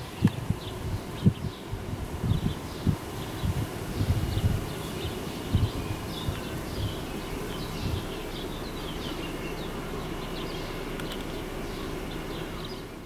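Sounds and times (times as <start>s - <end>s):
birds chirping: 0.0s - 13.0s
train rumbling over tracks: 1.2s - 13.0s.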